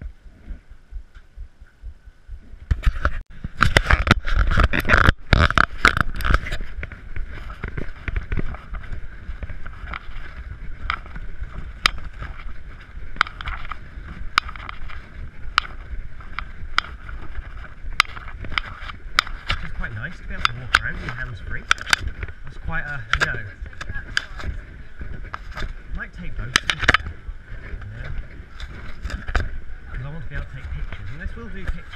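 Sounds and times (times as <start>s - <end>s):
steady background hum: 0.0s - 31.9s
camera handling knocks and rubbing: 2.7s - 29.6s.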